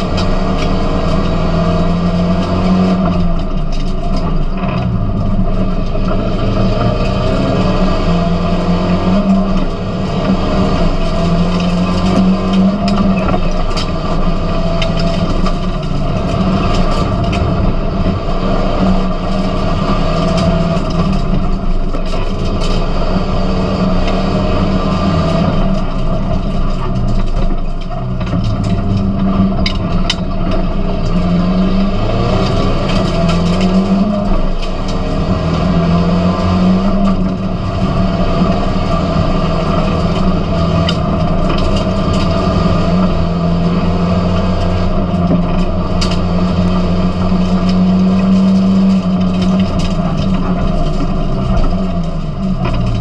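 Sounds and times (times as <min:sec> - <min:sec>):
race car engine revving: 0:00.0 - 0:53.0
road noise: 0:00.0 - 0:53.0.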